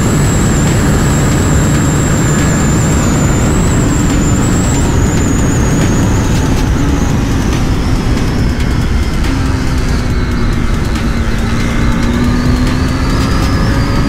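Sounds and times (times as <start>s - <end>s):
faint high whine: 0.0s - 14.0s
motorcycle engine running: 0.0s - 14.0s
wind rushing over microphone: 0.0s - 14.0s.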